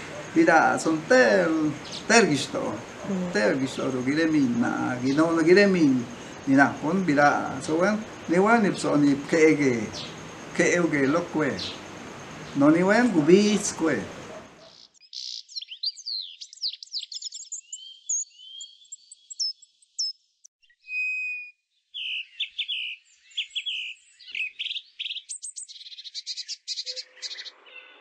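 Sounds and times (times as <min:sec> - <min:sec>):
birds chirping and singing: 0:00.0 - 0:28.0.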